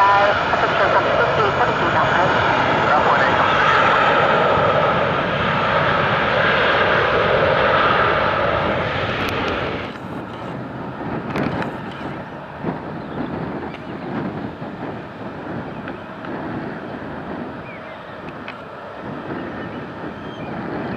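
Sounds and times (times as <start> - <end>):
jet engines at high power: 0.0 - 20.9.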